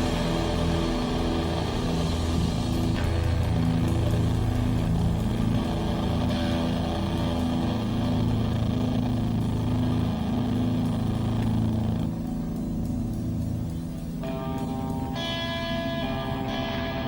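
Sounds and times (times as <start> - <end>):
live band with low guitar and bass: 0.0 - 17.0.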